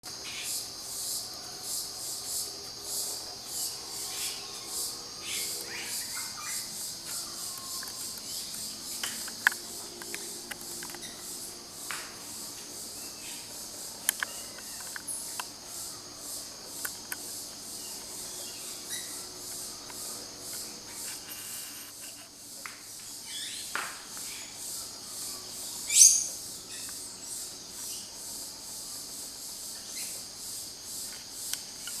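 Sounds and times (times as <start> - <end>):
pulsing insect chorus: 0.0 - 32.0.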